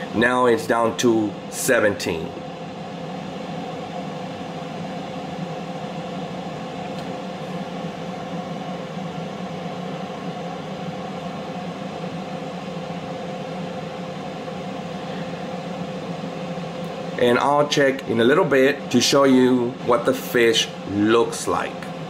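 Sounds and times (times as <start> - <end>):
air fryer fan whirring: 0.0 - 22.0.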